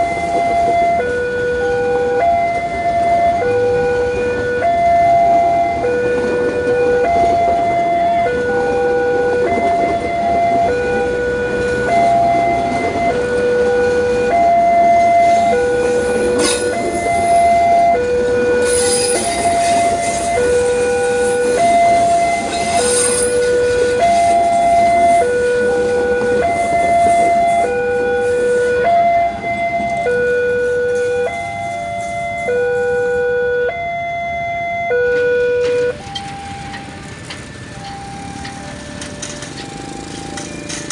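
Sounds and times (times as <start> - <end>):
train passing with rushing rumble: 0.0 - 40.9
two-tone level-crossing alarm: 0.0 - 40.9.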